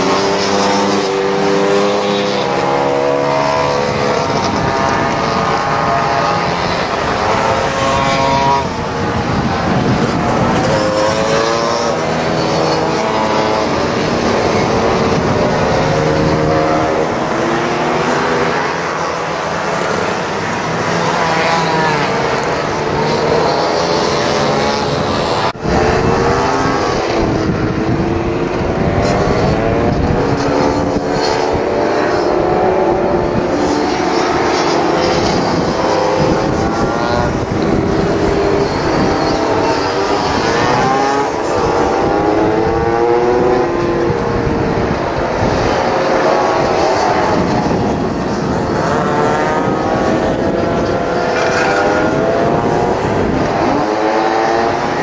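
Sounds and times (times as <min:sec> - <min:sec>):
scooter engines revving: 0:00.0 - 0:55.0.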